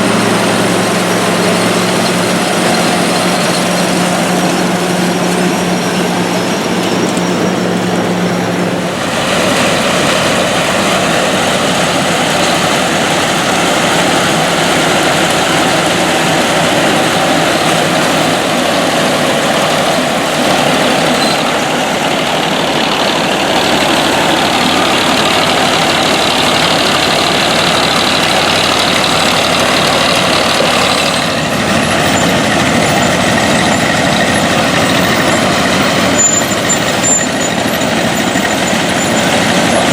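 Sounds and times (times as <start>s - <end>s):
harvesting machine engine rumbling: 0.0s - 39.9s.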